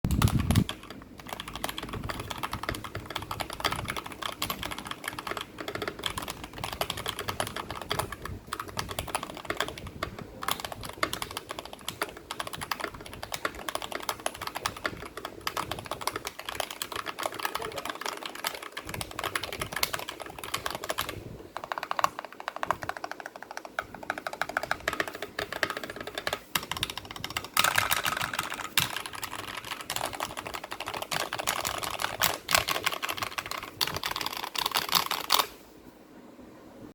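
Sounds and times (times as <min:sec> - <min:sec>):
mechanical keyboard typing: 0:00.0 - 0:35.6.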